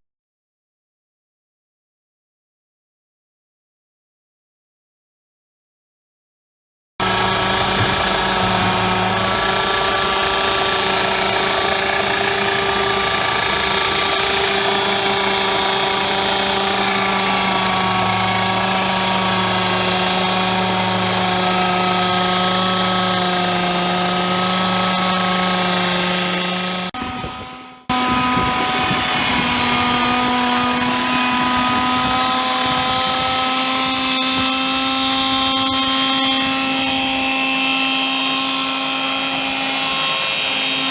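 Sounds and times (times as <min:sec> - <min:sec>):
motor whine: 0:07.0 - 0:40.9.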